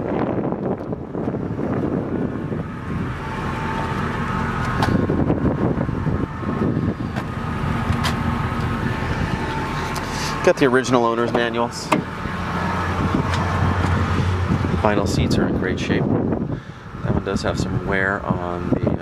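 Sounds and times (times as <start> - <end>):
engine idling: 0.2 - 19.0.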